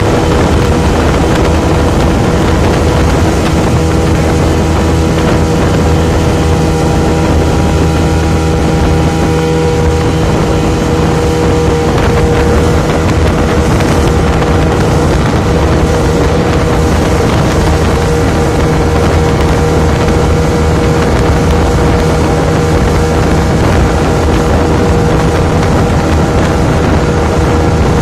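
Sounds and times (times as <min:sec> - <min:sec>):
speed boat engine drone: 0:00.0 - 0:28.0
wind on microphone: 0:00.0 - 0:28.0.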